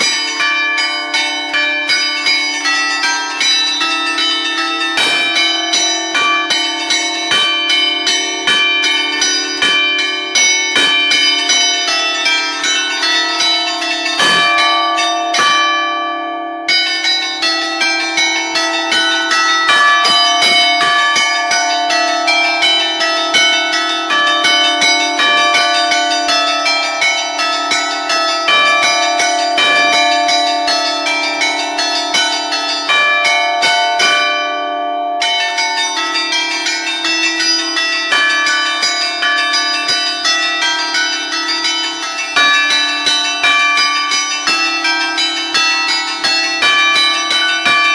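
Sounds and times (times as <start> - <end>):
church bells ringing fast: 0.0 - 47.9.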